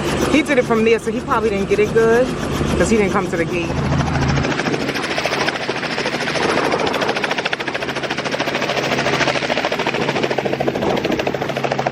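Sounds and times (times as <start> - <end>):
helicopter engine hum: 0.0 - 11.9
helicopter rotor blades chopping: 0.0 - 11.9.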